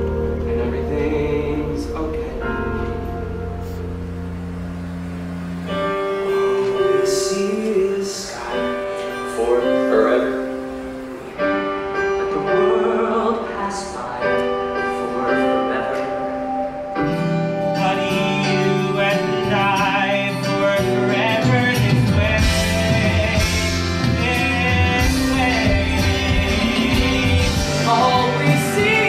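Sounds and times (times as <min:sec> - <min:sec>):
man singing a ballad: 0:00.0 - 0:03.3, 0:06.2 - 0:29.0
band accompaniment: 0:00.0 - 0:29.0.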